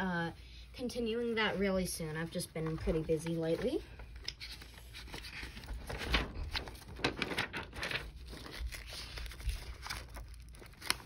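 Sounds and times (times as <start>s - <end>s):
paper pages rustling: 1.0s - 11.0s.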